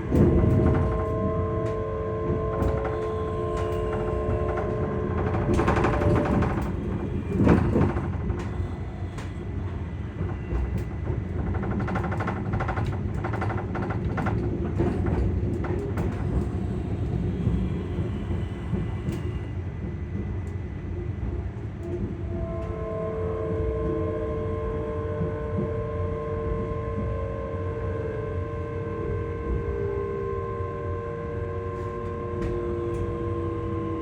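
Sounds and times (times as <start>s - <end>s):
train interior rumble: 0.0s - 34.0s.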